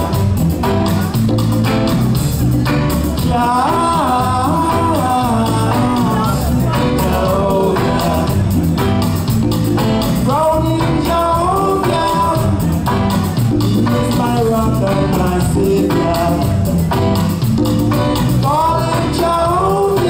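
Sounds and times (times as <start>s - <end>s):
live reggae band playing: 0.0s - 20.0s.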